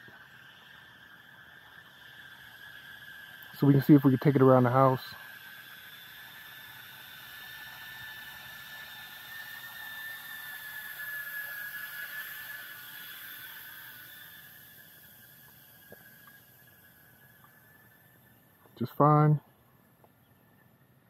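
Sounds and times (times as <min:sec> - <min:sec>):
drone propellers whining: 0:00.0 - 0:20.7.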